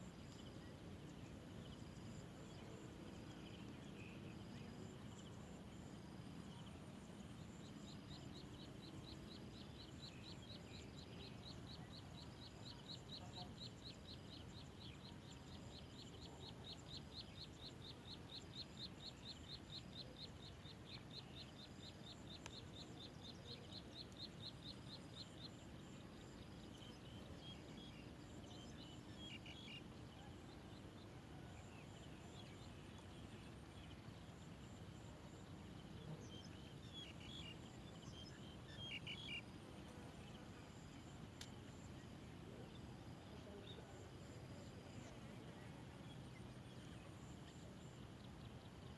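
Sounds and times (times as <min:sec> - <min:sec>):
faint outdoor ambience: 0:00.0 - 0:48.9.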